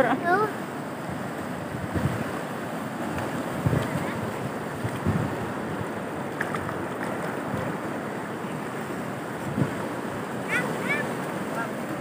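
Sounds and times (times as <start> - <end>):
river rushing: 0.0 - 12.0
wind buffeting microphone: 1.0 - 12.0.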